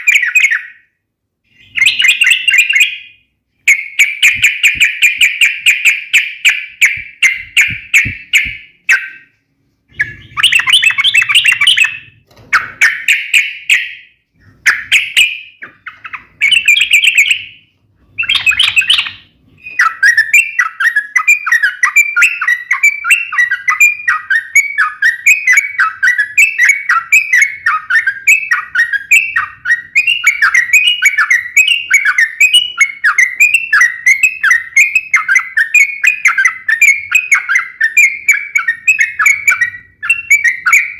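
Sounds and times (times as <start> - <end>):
bulbul singing chattering song: 0.0 - 40.9.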